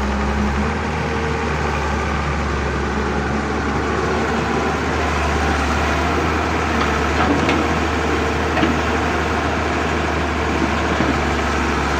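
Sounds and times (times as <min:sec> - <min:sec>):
diesel engine low hum: 0:00.0 - 0:11.9.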